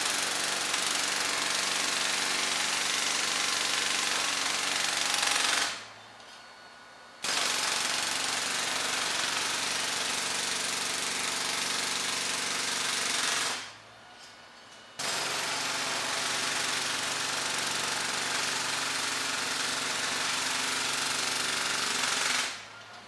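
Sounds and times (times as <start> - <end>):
jackhammer hammering: 0.0 - 5.9, 7.2 - 13.8, 15.0 - 22.6.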